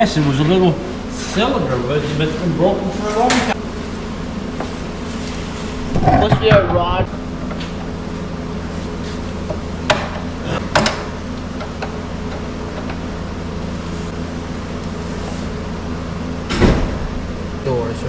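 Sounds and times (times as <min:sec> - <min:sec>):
machine humming: 0:00.0 - 0:17.9.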